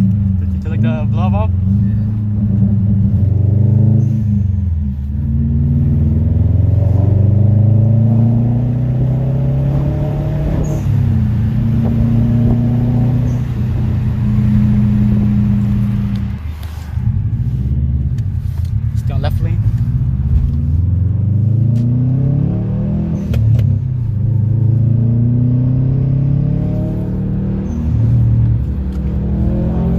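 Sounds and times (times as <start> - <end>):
car exhaust rumble: 0.0 - 29.9.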